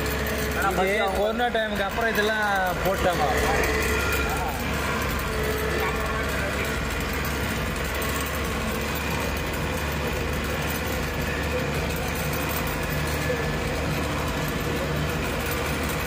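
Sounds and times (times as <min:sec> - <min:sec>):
bus engine running: 0:00.0 - 0:16.0
road noise: 0:00.0 - 0:16.0.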